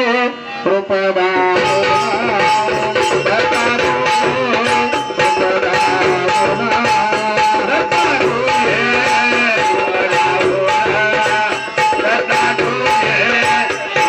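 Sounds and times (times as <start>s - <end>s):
harmonium playing: 0.0s - 14.0s.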